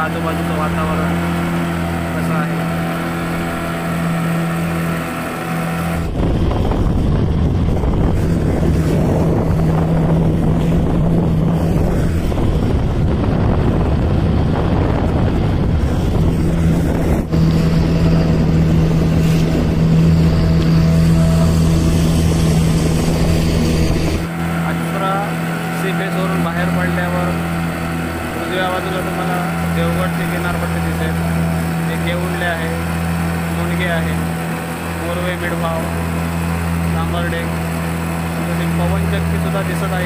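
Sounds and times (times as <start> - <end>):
outboard motor running: 0.0 - 40.0
rush of wind and water: 0.0 - 40.0.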